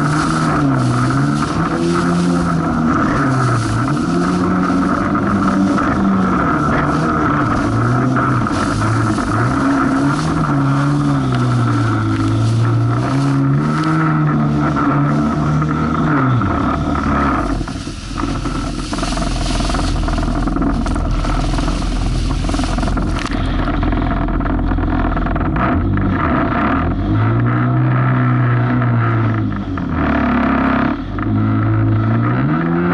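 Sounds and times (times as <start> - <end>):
rushing wind: 0.0 - 27.6
jet ski engine running: 0.0 - 32.9
low microphone rumble: 0.0 - 32.9
water noise: 0.0 - 32.9.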